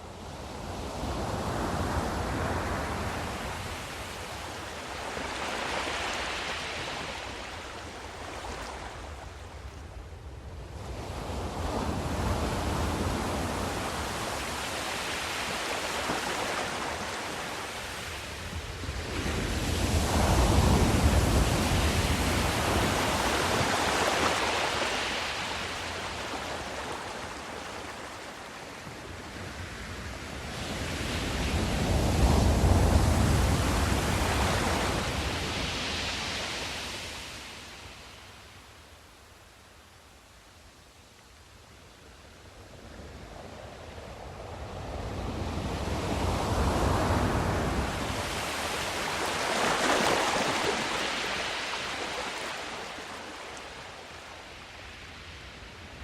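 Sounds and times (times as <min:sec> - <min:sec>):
ocean waves breaking on shore: 0:00.0 - 0:39.2, 0:42.8 - 0:56.0.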